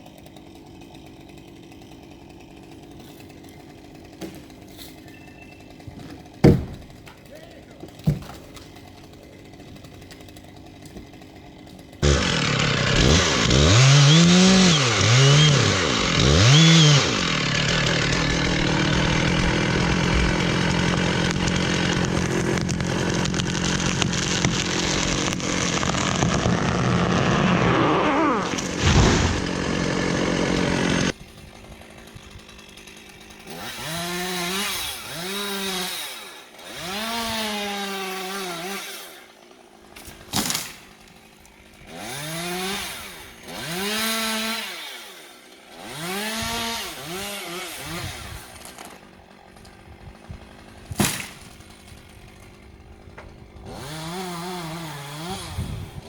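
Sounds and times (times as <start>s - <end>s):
chainsaw revving and cutting wood: 0.0s - 56.0s.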